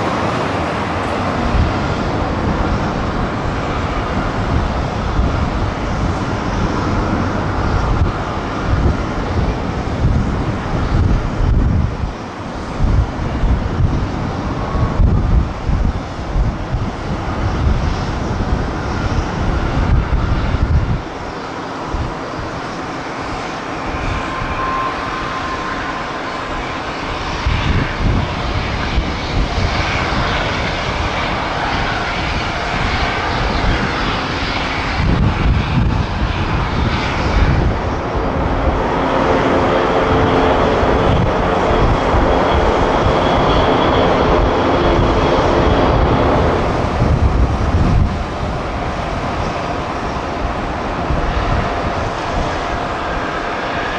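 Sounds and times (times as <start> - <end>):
airliner engines landing: 0.0 - 53.9
wind buffeting microphone: 0.0 - 53.9.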